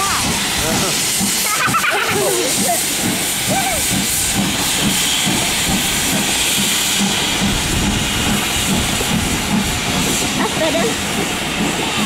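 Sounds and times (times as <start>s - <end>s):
hiss of escaping steam: 0.0s - 12.0s
steam locomotive exhaust beats: 0.0s - 12.0s.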